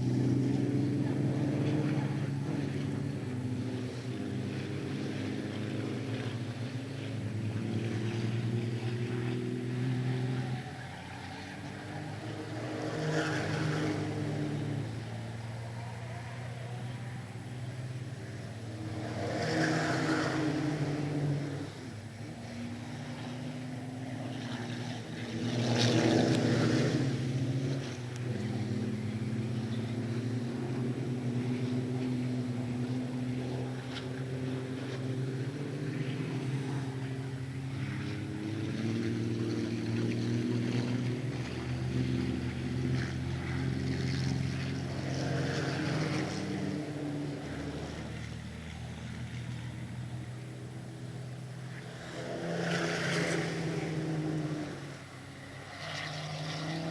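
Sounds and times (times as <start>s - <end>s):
racing trucks passing: 0.0s - 56.9s.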